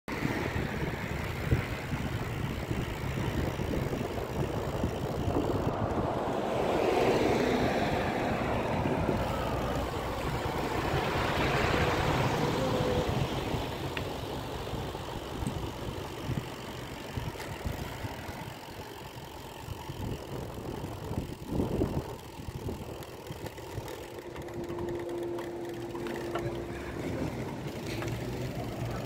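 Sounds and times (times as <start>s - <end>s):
motor vehicle engine and tyres: 0.1s - 29.0s
wind rumbling on microphone: 0.1s - 29.0s.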